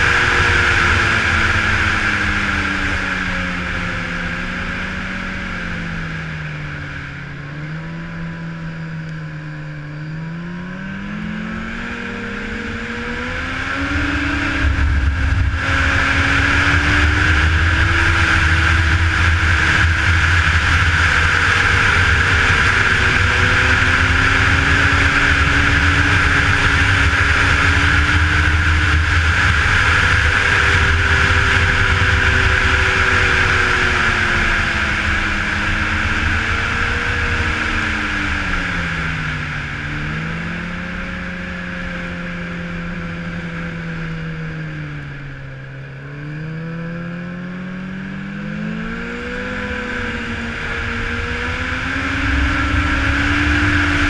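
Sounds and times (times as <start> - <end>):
high whine: 0.0 - 54.0
snowmobile engine running: 0.0 - 54.0.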